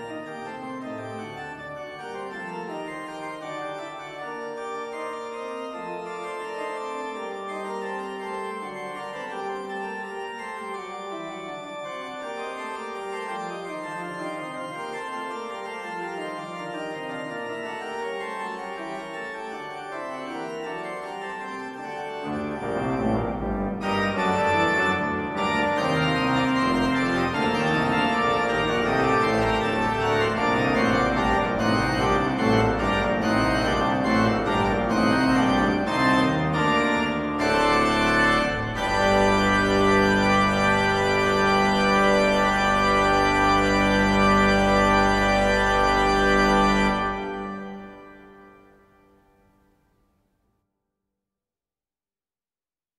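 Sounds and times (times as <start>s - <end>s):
organ music: 0.0s - 49.4s.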